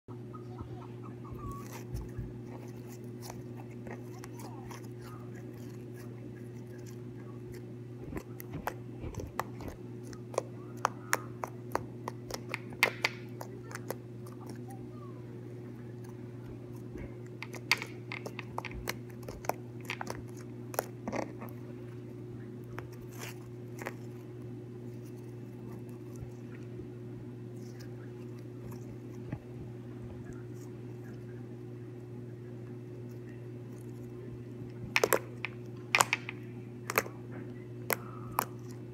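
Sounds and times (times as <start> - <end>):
low hum: 0.1 - 38.9
fingers squishing slime: 1.4 - 15.0, 15.7 - 21.7, 22.6 - 29.5, 32.7 - 38.9.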